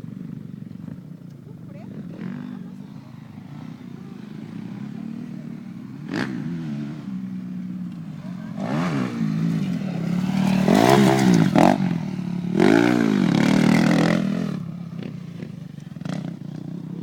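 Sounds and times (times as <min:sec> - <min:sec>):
motocross bike engine revving: 0:01.8 - 0:17.0.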